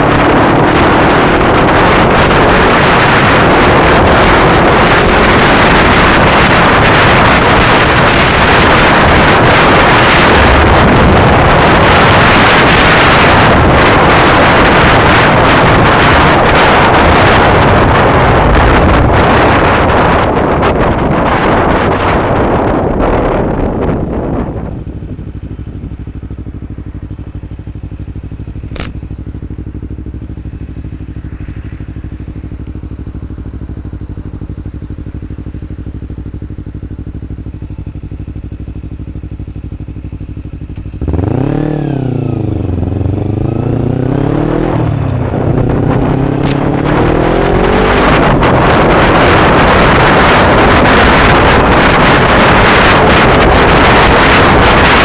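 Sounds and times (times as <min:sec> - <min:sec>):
motorcycle engine idling and revving: 0:00.0 - 0:55.0
wind noise on microphone: 0:00.0 - 0:55.0.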